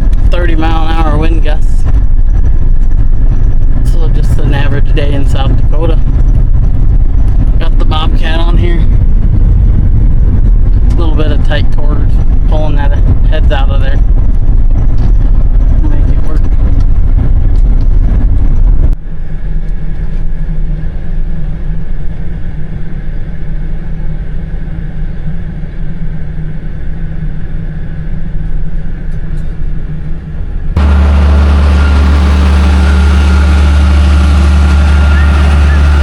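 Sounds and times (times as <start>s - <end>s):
vehicle engine humming: 0.0s - 36.0s.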